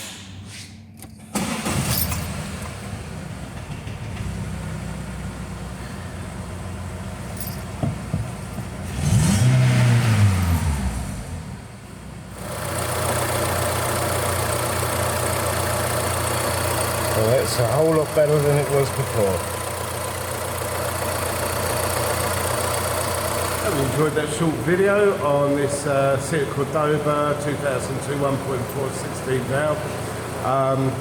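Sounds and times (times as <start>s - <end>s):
car engine starting and idling: 1.1s - 31.0s.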